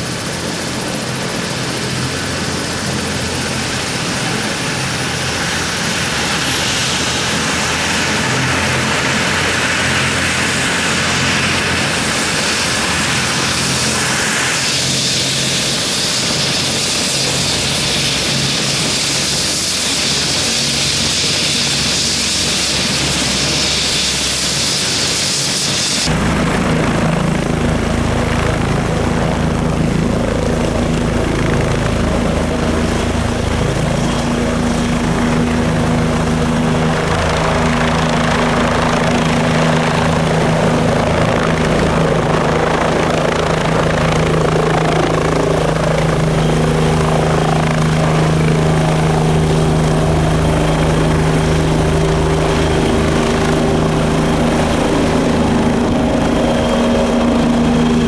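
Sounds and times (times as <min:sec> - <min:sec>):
helicopter rotor drone: 0:00.0 - 0:58.0
high turbine whine: 0:00.0 - 0:58.0.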